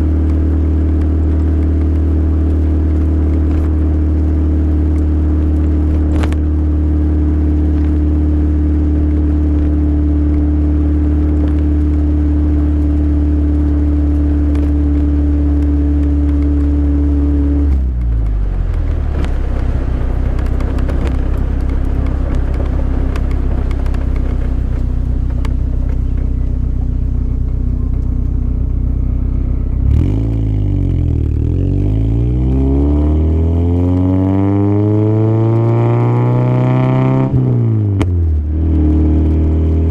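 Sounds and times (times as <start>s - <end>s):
loud car engine revving: 0.0s - 39.9s.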